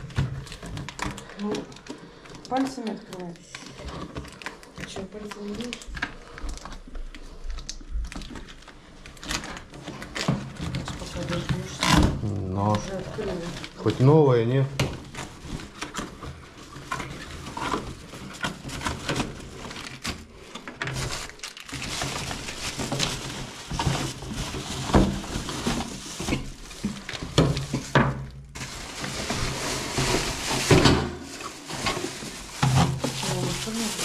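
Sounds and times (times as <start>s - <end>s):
plastic parts knocking and clattering: 0.0s - 6.9s, 7.6s - 14.0s, 14.6s - 34.0s
plastic wrapping rustling: 0.0s - 34.0s.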